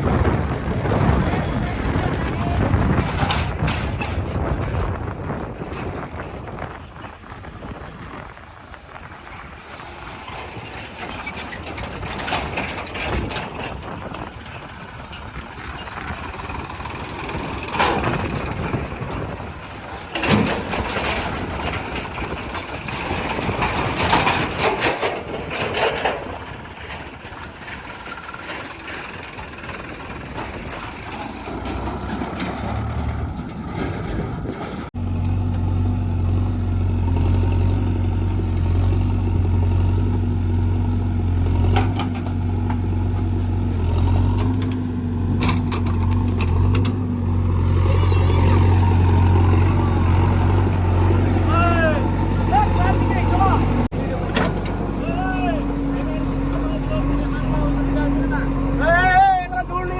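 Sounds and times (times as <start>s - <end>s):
diesel engine under load: 0.0s - 59.9s
loader clanks and thuds: 0.0s - 59.9s
steady engine hum: 0.0s - 59.9s.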